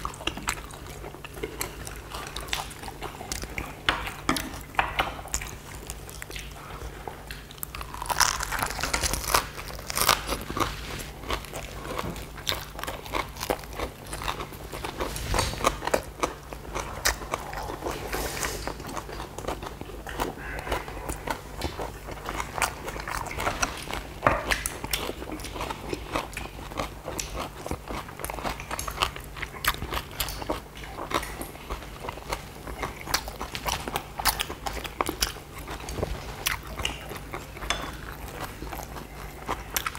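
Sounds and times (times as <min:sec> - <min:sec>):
faint low hum: 0:00.0 - 0:39.9
people chewing crunchy leaves: 0:00.0 - 0:39.9.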